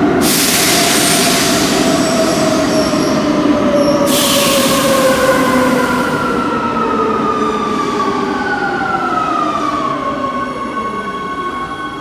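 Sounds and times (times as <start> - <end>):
train traction motors whining: 0.0 - 12.0.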